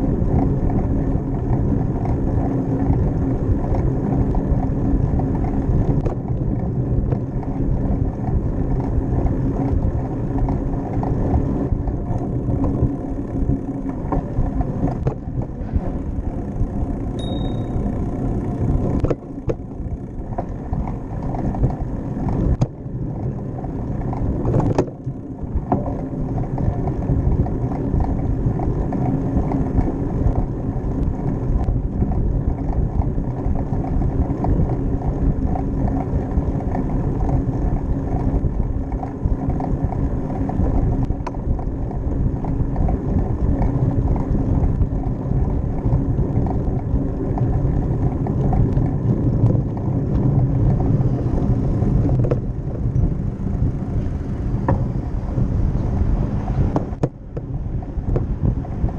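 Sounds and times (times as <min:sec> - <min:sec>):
wind and bicycle tyre rumble: 0:00.0 - 0:58.9.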